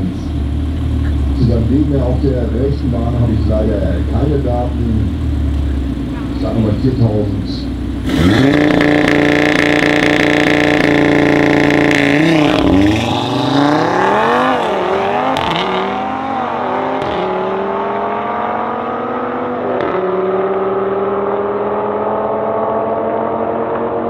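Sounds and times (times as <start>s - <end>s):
car engines revving and accelerating: 0.0s - 24.0s.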